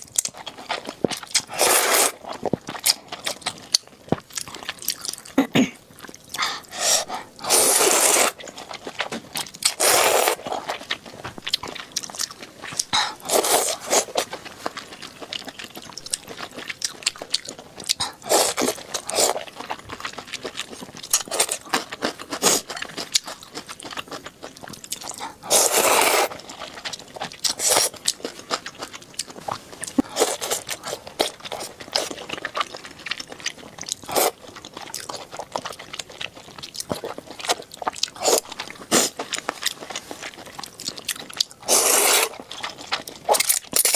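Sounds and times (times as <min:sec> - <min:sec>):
chewing and biting food: 0:00.0 - 0:43.9.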